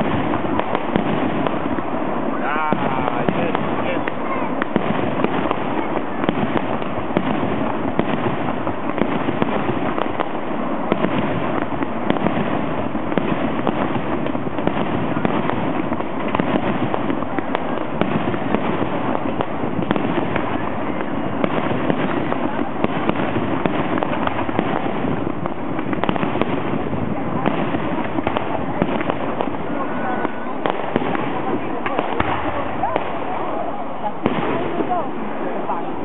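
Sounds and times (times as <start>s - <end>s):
fireworks cracking and popping: 0.0s - 36.0s.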